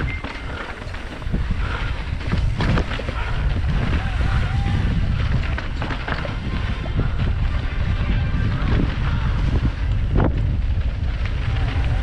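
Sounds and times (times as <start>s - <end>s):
bike rattling on rough trail: 0.0s - 12.0s
wind buffeting microphone: 0.0s - 12.0s.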